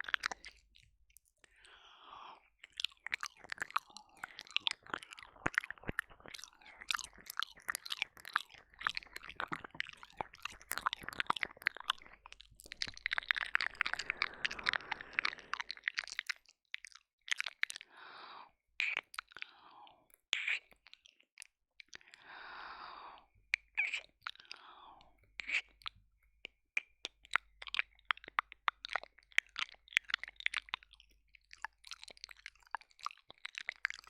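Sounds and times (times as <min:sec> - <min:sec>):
wet mouth clicks and slurps: 0:00.0 - 0:01.8, 0:02.4 - 0:18.0, 0:18.8 - 0:22.3, 0:23.2 - 0:34.0
breathy wet mouth sounds: 0:00.0 - 0:34.0.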